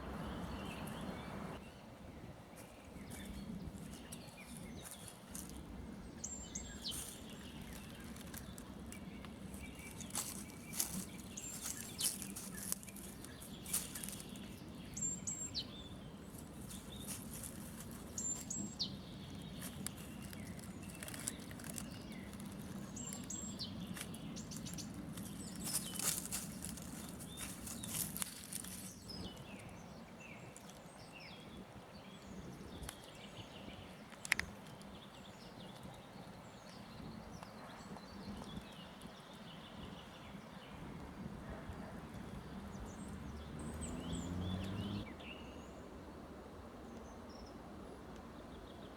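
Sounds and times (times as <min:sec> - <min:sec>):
birds singing and chirping: 0:00.0 - 0:01.9, 0:03.0 - 0:40.8, 0:42.2 - 0:45.7.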